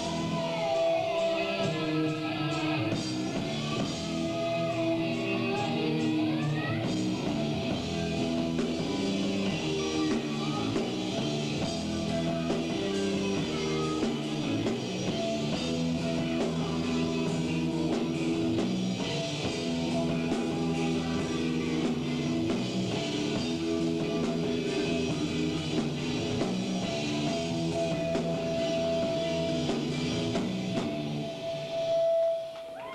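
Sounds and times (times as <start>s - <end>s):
rock band playing live: 0.0s - 32.9s.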